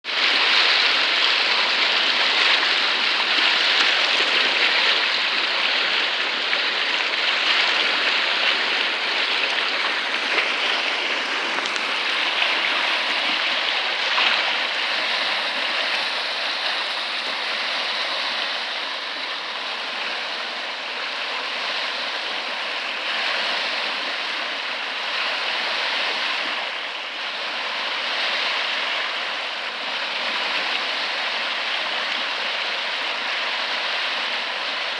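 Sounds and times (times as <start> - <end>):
floodwater rushing: 0.0 - 34.9.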